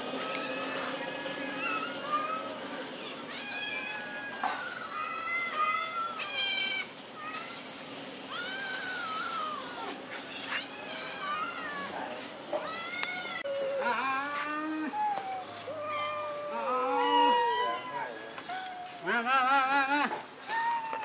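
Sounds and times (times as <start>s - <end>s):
cats meowing: 0.0s - 19.4s.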